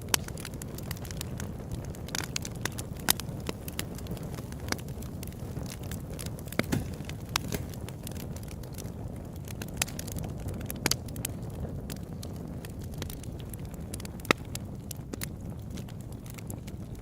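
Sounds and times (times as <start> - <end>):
campfire crackling and popping: 0.0 - 17.0
low rumble of campfire: 0.0 - 17.0.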